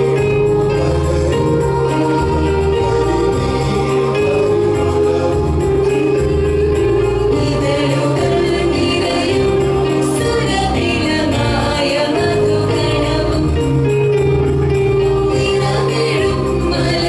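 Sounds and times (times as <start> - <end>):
mixed choir singing: 0.0 - 14.2, 14.8 - 17.0.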